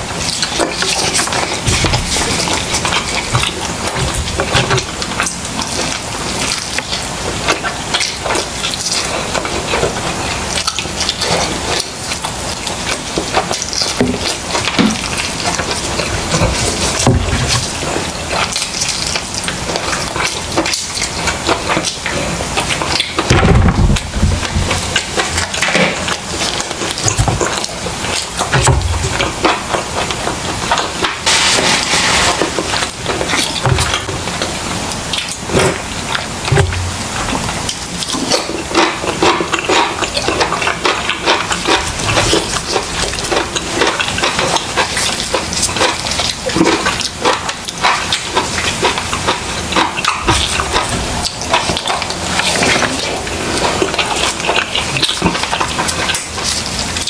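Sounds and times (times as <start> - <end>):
close chewing and mouth sounds: 0.0 - 57.0.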